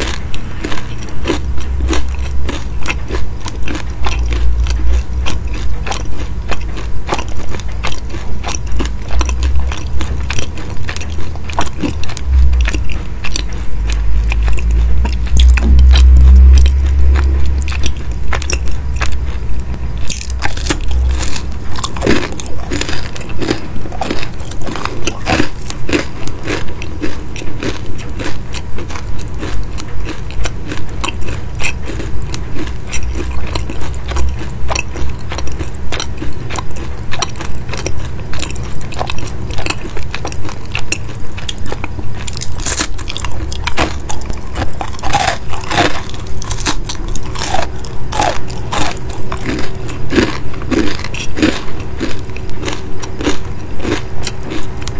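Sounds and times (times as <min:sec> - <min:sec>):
chewing crisp pastry: 0:00.0 - 0:54.9.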